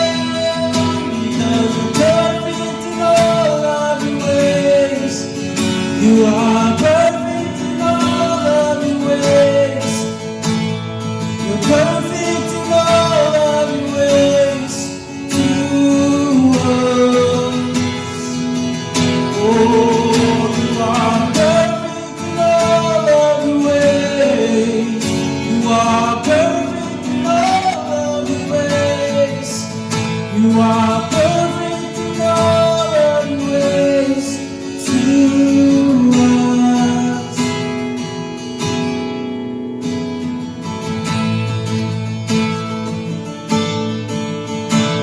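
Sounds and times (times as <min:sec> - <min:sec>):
person singing: 0:00.0 - 0:10.3, 0:11.4 - 0:37.6
acoustic guitar playing: 0:00.0 - 0:45.0.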